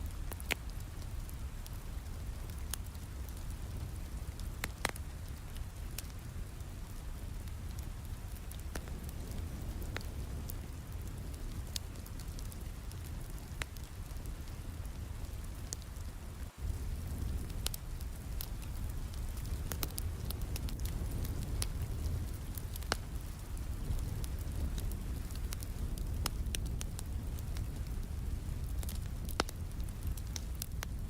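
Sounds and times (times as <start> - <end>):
steady rain: 0.0 - 31.0
wood fire crackling: 0.0 - 31.0.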